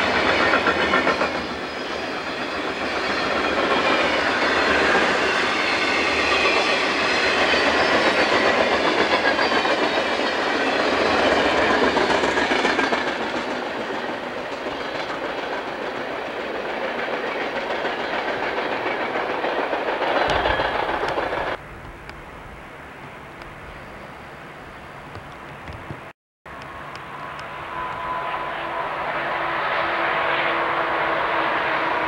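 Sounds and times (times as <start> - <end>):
freight train passing: 0.0 - 25.8, 26.5 - 32.0.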